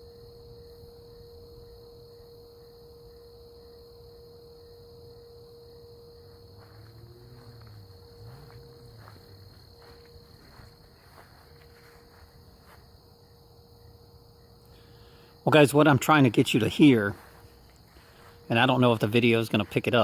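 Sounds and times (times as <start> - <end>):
night insects droning: 0.0 - 20.0
steady electrical hum: 0.0 - 20.0.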